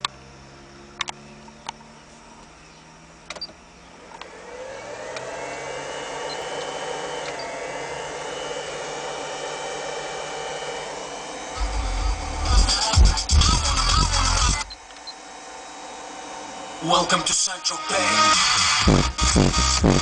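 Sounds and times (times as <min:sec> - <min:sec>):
machine humming: 0:00.0 - 0:20.0
whining rush: 0:02.3 - 0:20.0.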